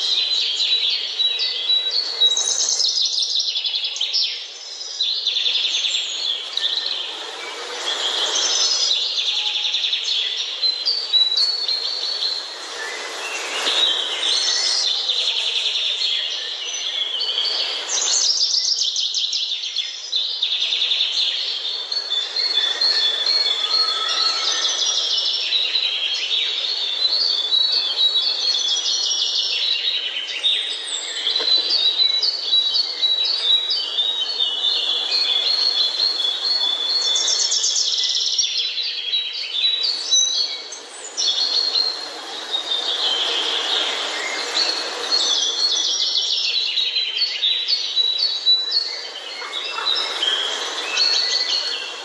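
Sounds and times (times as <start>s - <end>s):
songbirds chirping and singing: 0.0s - 52.0s
steady background hiss: 0.0s - 52.0s.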